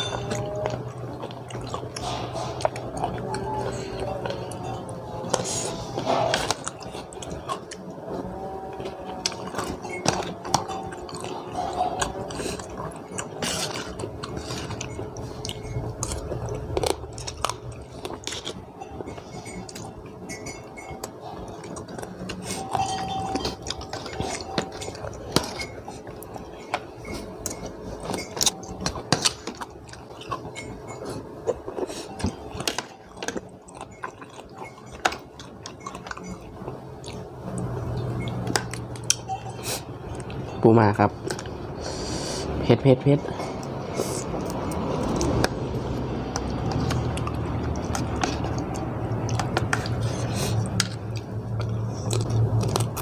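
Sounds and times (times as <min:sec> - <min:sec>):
utensils clinking on a plate: 0:00.0 - 0:41.6, 0:43.1 - 0:45.4
chewing and biting food: 0:00.0 - 0:53.0.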